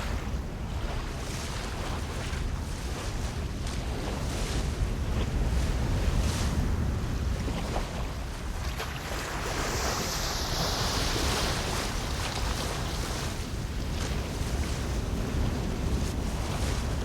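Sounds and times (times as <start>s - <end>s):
sea waves washing ashore: 0.0s - 17.0s
wind rumble on microphone: 0.0s - 17.0s.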